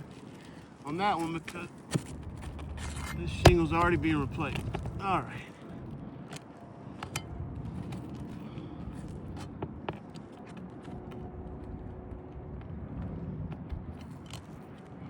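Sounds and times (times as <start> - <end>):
steady low rumble: 1.7 - 9.9, 10.6 - 15.0.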